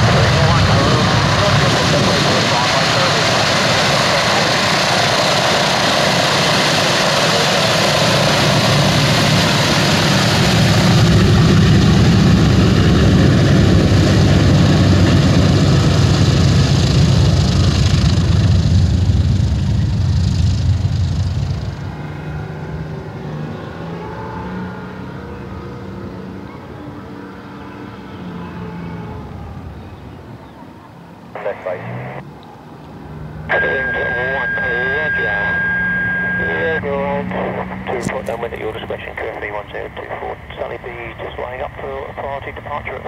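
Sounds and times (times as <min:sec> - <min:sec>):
aircraft propeller engines running: 0:00.0 - 0:23.7, 0:29.1 - 0:43.0.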